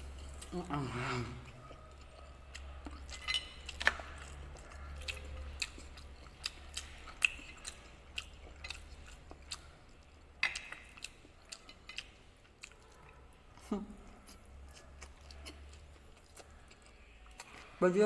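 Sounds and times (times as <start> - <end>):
person chewing: 0.0 - 17.8.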